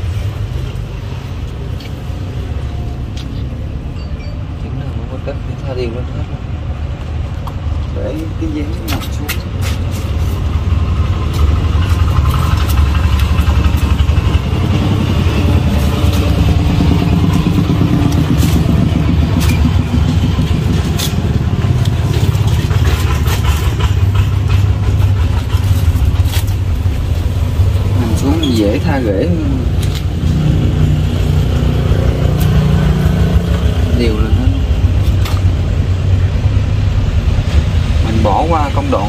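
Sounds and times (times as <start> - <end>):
engine idling: 6.0 - 39.0.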